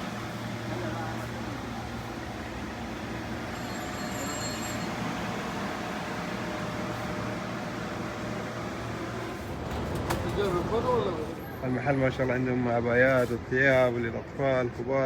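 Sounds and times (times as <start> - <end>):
low street hum: 0.0 - 15.0.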